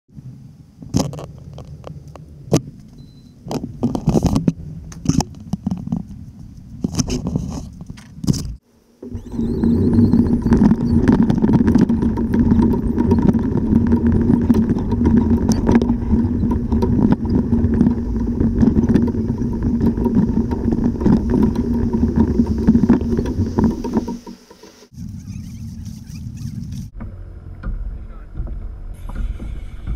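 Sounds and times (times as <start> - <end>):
kayak dragged over ground rumbling: 0.2 - 2.8, 3.5 - 29.9
rattles and clicks of gear: 0.8 - 29.9.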